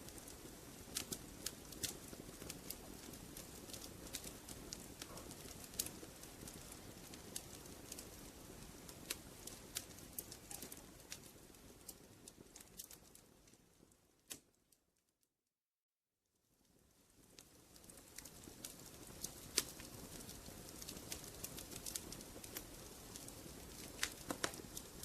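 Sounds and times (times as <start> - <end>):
wood fire crackling: 0.0 - 14.7, 16.4 - 25.0.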